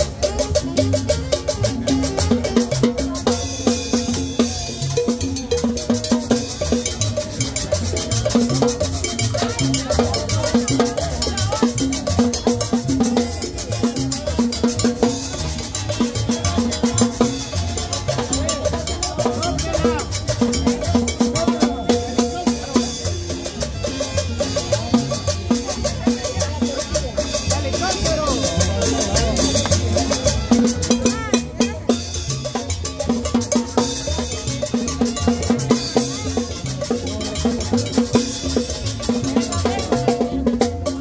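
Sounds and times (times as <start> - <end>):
upbeat latin dance music: 0.0 - 41.0.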